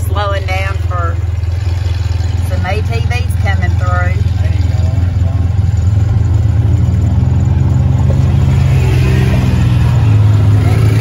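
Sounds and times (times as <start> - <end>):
vehicle engines running low: 0.0 - 11.0.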